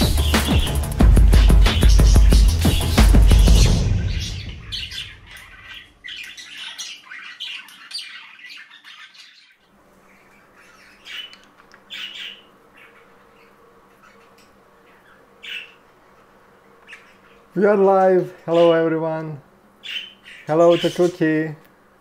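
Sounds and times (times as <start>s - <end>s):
budgerigar squawks and chirps: 0.0s - 17.5s, 19.8s - 21.1s.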